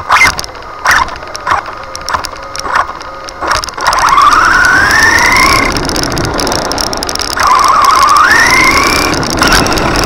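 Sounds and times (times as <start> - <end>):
electric rc car motor whine: 0.0 - 6.0, 7.4 - 10.0.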